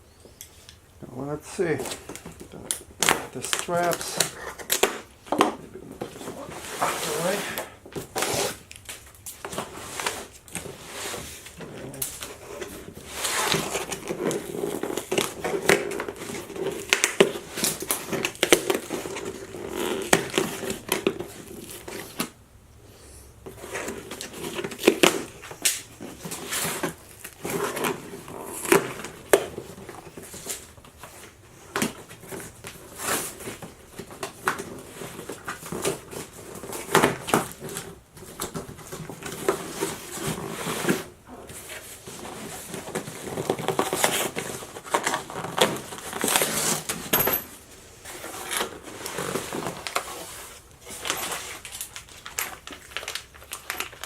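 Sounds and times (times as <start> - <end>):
packing material rustling: 1.5 - 22.4, 23.5 - 54.0.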